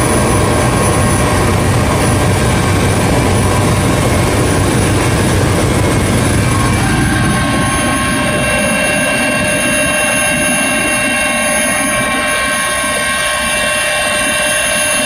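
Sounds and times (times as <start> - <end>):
low rotor rumble: 0.0 - 15.0
turbine engine whine: 0.0 - 15.0.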